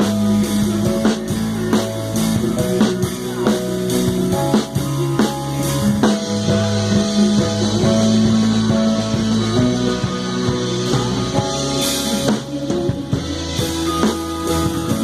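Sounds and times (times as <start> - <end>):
band playing instrumental: 0.0 - 15.0.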